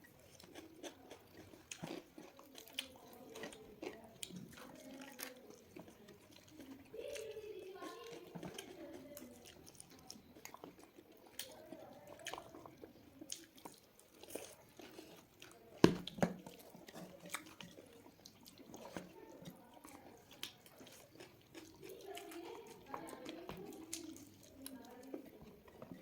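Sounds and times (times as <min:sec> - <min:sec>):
person chewing chicken: 0:00.0 - 0:26.0.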